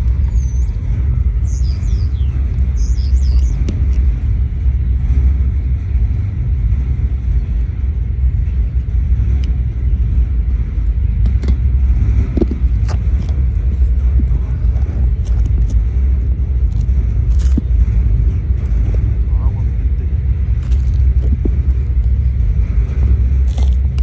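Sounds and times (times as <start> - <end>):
propane torch roaring: 0.0 - 24.0.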